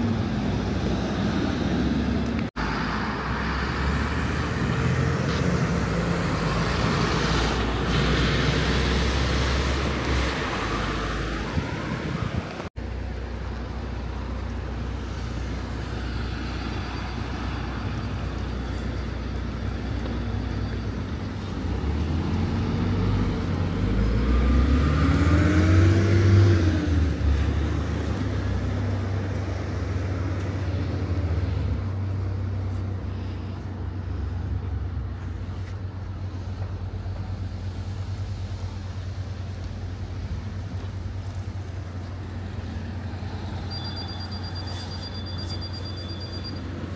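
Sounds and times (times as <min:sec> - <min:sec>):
street traffic rumble: 0:00.0 - 0:46.9.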